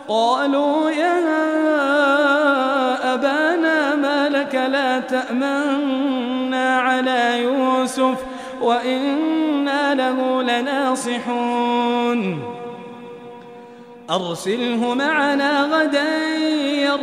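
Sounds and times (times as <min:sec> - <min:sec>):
man chanting recitation: 0:00.0 - 0:13.5, 0:14.1 - 0:17.0.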